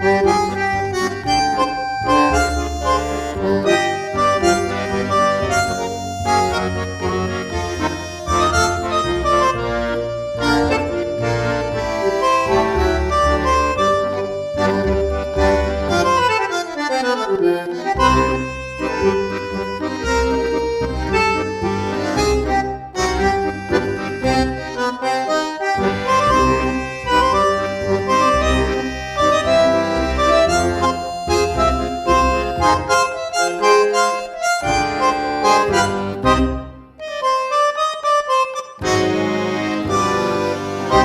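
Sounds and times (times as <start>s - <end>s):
dance music with accordion melody: 0.0s - 41.0s.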